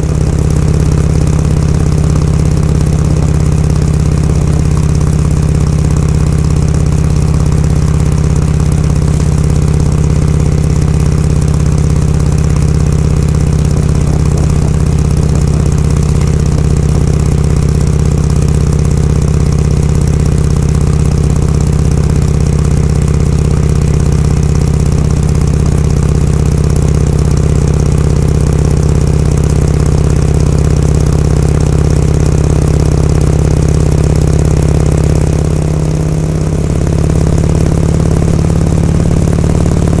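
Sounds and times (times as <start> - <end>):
motorcycle engine running steadily: 0.0 - 40.0.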